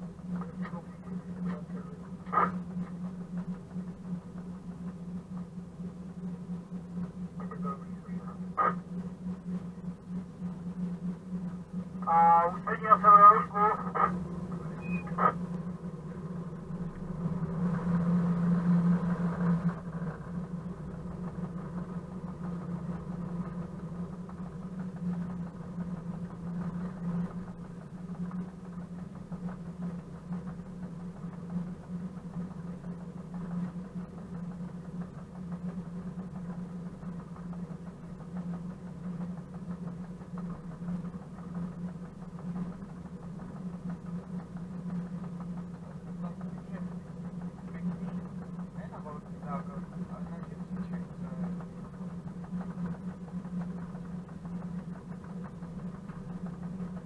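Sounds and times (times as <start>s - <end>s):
locomotive diesel engine running: 0.0s - 57.0s.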